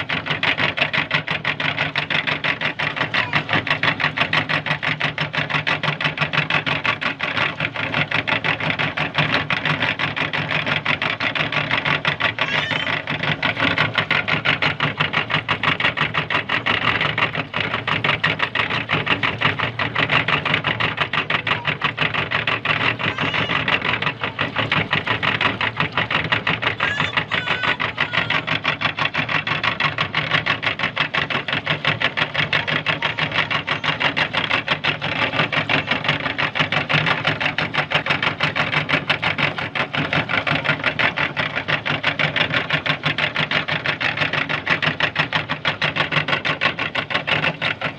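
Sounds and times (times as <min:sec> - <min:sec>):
electric meat grinder rattling: 0:00.0 - 0:47.9.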